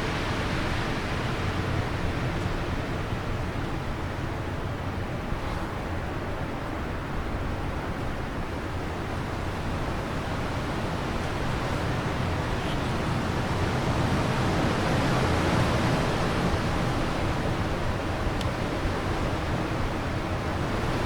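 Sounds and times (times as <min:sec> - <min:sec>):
rushing wind: 0:00.0 - 0:21.0.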